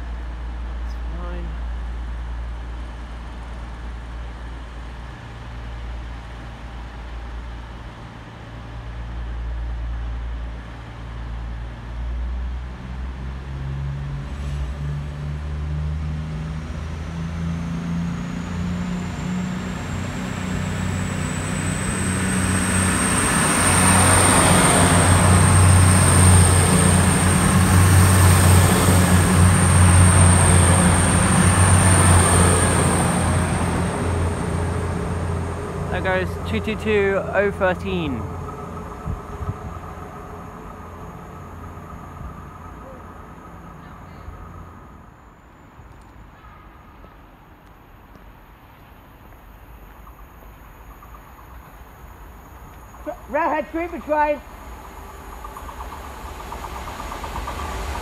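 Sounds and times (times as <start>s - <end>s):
diesel train engines passing: 0.0s - 58.0s.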